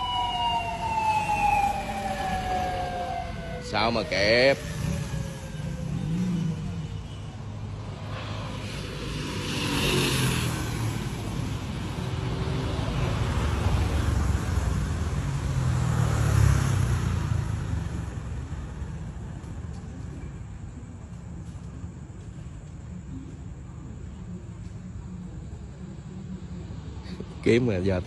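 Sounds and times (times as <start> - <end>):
road vehicles passing: 0.0 - 28.0.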